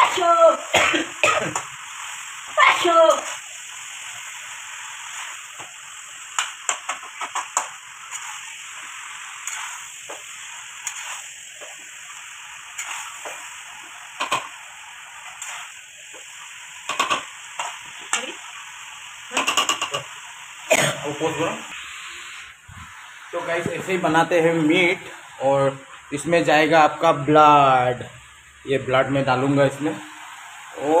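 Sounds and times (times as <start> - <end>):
meat sizzling in a pan: 0.0 - 31.0.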